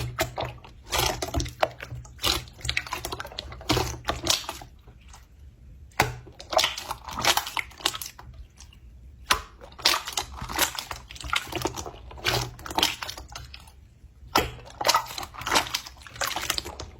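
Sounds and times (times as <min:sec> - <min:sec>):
sticky squishy crackling: 0:00.0 - 0:16.9.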